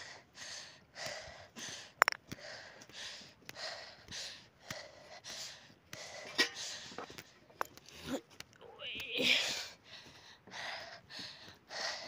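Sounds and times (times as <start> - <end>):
person breathing hard: 0.0 - 8.3, 9.2 - 12.0.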